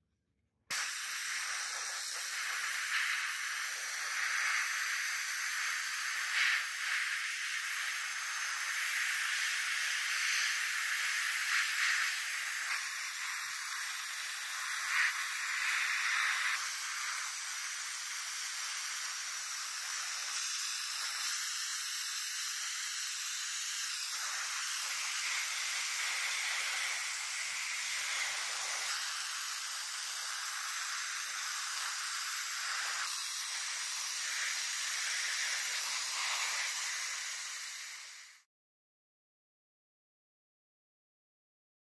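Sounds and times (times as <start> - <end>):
sandblasting gun hissing: 0.7 - 38.4.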